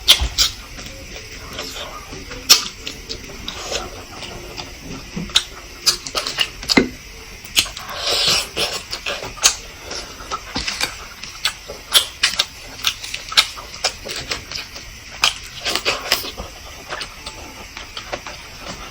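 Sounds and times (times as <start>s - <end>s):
wet chewing and lip smacks: 0.1s - 18.9s.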